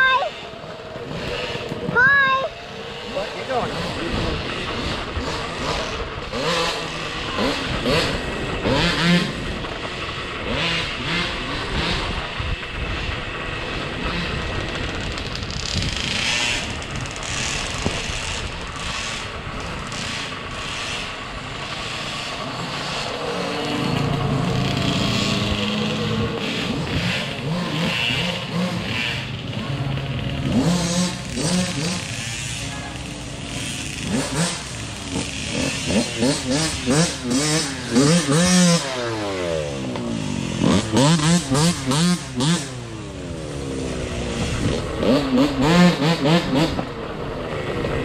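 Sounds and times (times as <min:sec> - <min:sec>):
off-road motorcycles running: 0:00.0 - 0:48.0
rough rumbling noise: 0:00.0 - 0:48.0.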